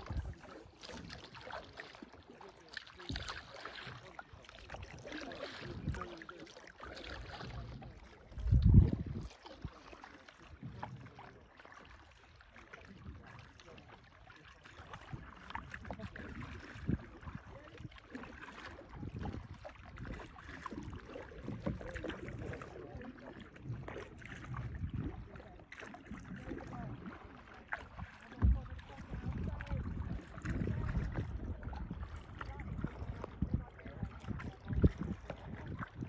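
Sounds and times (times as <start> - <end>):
water lapping against kayak hull: 0.0 - 36.0.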